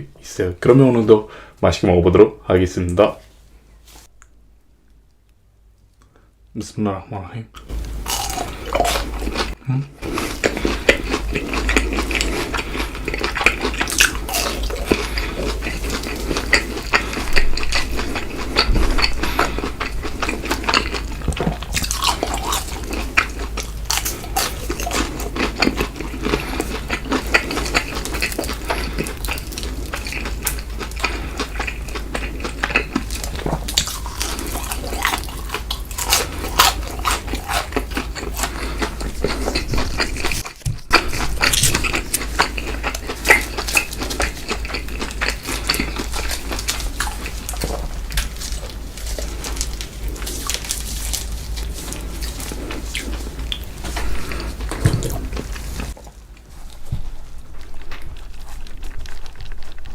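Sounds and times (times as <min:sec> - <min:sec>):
crisp crunching and smacking: 0:07.6 - 0:59.9
wet chewing: 0:07.6 - 0:59.9.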